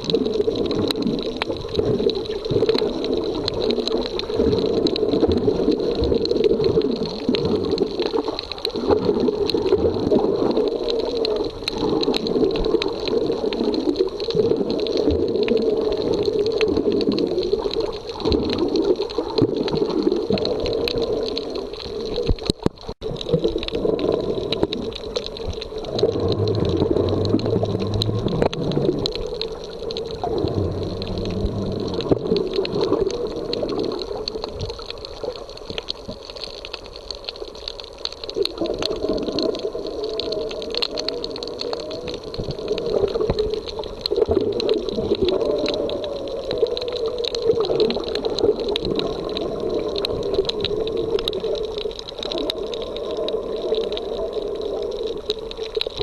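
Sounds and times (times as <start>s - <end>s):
sea water washing on beach: 0.0s - 56.0s.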